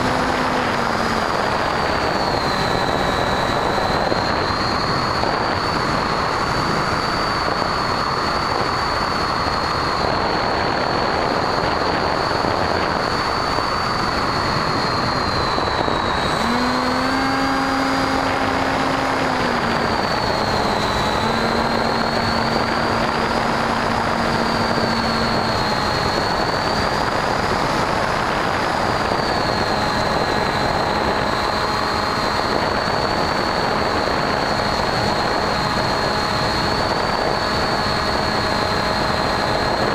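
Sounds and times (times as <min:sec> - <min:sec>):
electric motor high whine: 0:00.0 - 0:39.9
rushing wind: 0:00.0 - 0:39.9.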